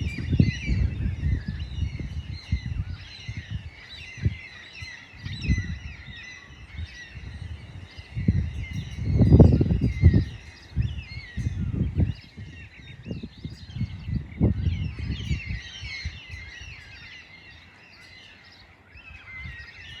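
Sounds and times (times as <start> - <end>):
small birds chirping: 0.0 - 20.0
wind rumbling on microphone: 0.0 - 20.0.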